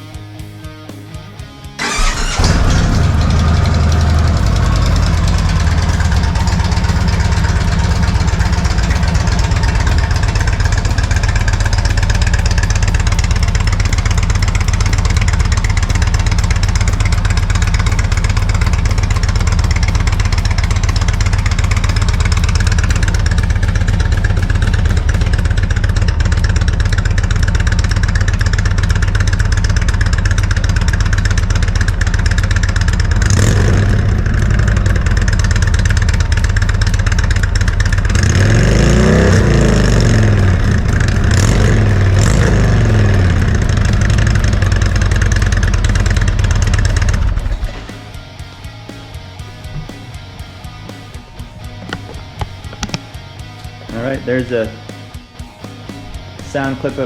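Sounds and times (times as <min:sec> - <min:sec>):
motorcycle engine idling: 0:01.8 - 0:57.0.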